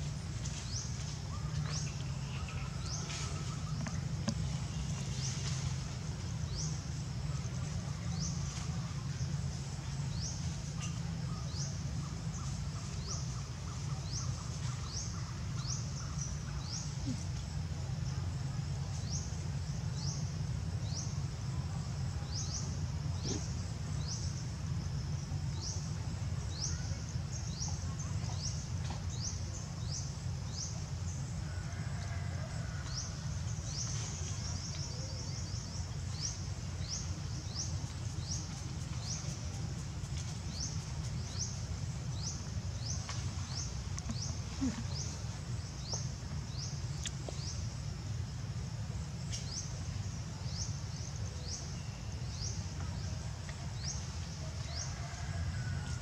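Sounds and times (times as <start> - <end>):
low background rumble: 0.0 - 56.0.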